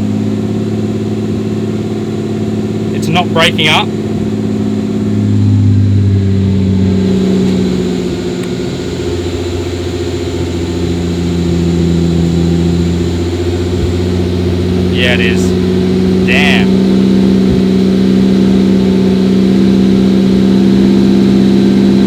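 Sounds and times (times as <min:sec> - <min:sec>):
car engine hunting idle: 0:00.0 - 0:22.0.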